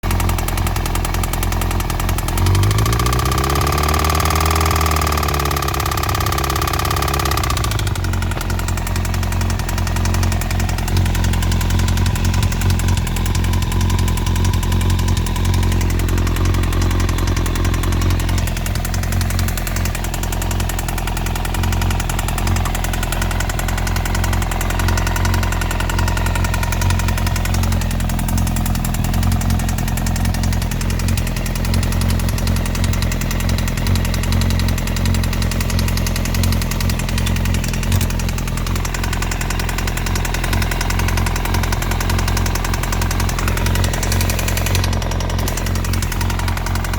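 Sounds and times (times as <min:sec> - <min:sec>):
engine top-end rattle and knock: 0:00.0 - 0:46.9
motorcycle engine idling: 0:00.0 - 0:46.9.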